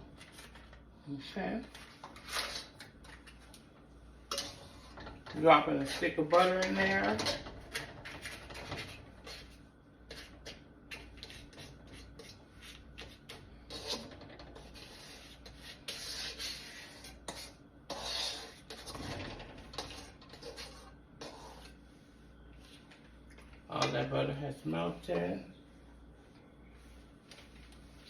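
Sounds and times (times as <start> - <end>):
utensil scraping in a wok: 0.0 - 28.0.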